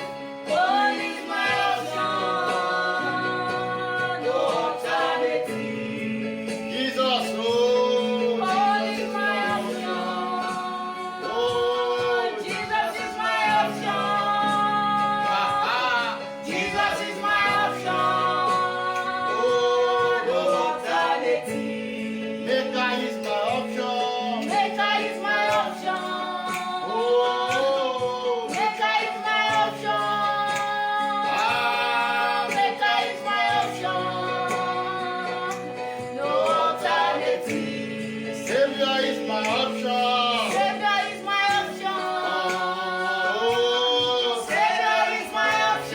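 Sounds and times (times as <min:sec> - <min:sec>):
backing vocals: 0:00.0 - 0:45.9
woman singing gospel: 0:00.0 - 0:45.9.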